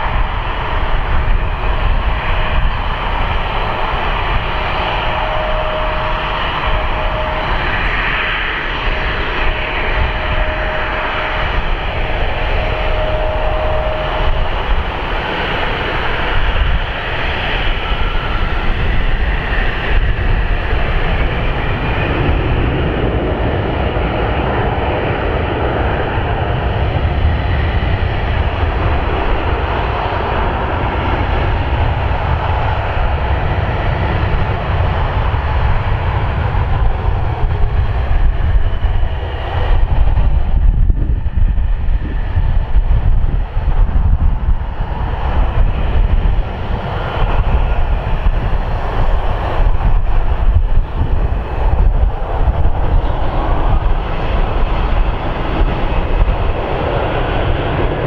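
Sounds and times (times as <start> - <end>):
jet engines taxiing: 0.0 - 58.0
thin engine whine: 0.1 - 58.0.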